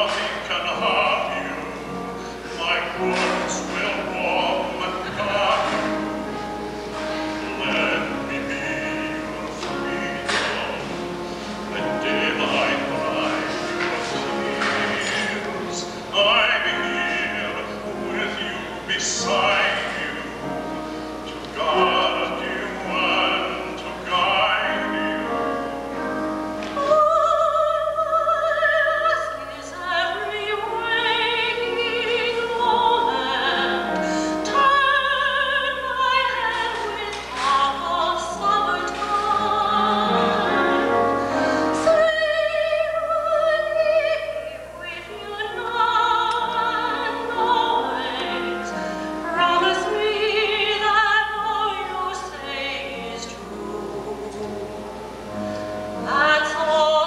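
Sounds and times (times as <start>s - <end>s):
man and woman singing opera: 0.0s - 57.0s.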